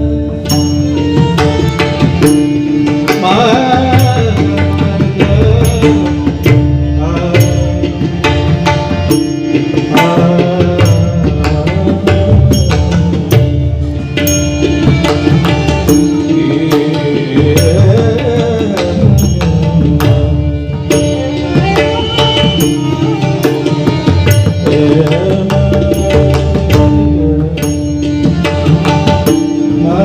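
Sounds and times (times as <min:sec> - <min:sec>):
harmonium melody: 0:00.0 - 0:30.0
tabla drumming: 0:00.0 - 0:30.0.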